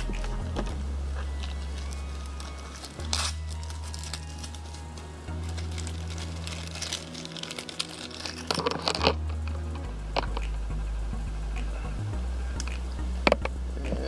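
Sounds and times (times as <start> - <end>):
low background tones: 0.0 - 14.0.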